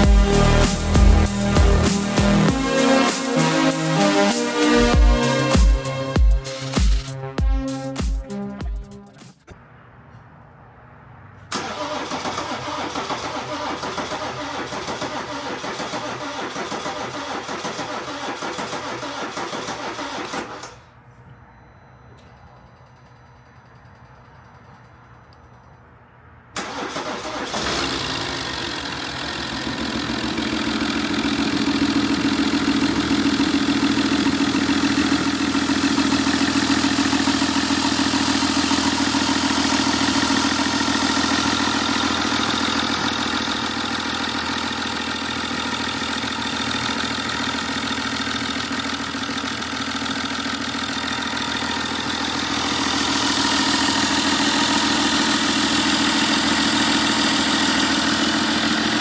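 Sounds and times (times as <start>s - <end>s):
diesel engine idling: 0.0s - 8.9s, 11.5s - 21.1s, 26.6s - 59.0s.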